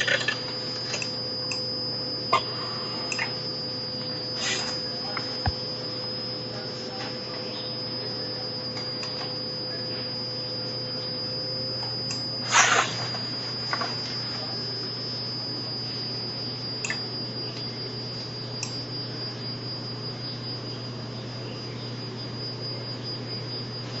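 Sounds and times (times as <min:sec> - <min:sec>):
electrical hum: 0:00.0 - 0:24.0
high-pitched whine: 0:00.0 - 0:24.0.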